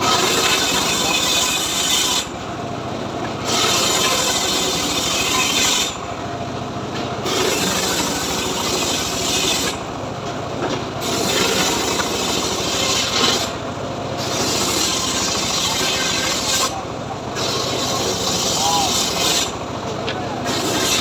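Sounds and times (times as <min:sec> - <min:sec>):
circular saw cutting a log: 0:00.0 - 0:02.5, 0:03.2 - 0:06.2, 0:07.2 - 0:10.0, 0:10.9 - 0:21.0
saw motor hum: 0:00.0 - 0:02.5, 0:03.3 - 0:06.2, 0:07.2 - 0:09.9, 0:11.0 - 0:21.0.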